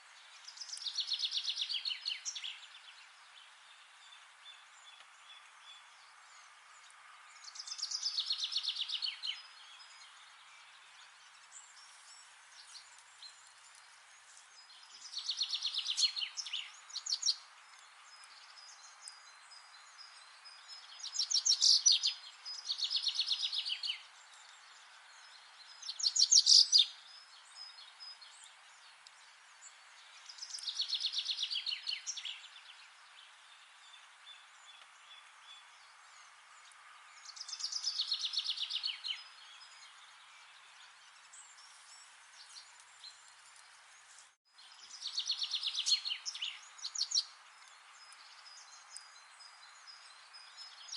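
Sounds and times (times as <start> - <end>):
faint outdoor hiss: 0.0 - 50.9
songbird singing fast trills: 0.1 - 50.9.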